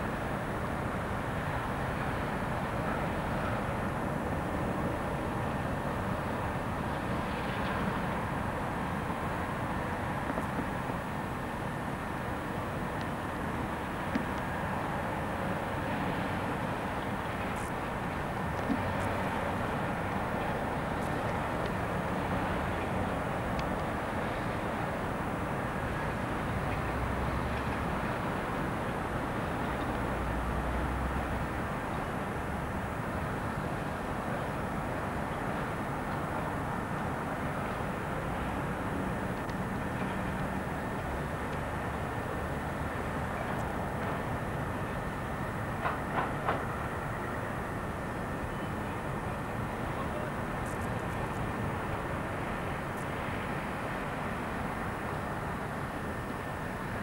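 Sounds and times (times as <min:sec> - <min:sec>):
distant road traffic: 0:00.0 - 0:57.0.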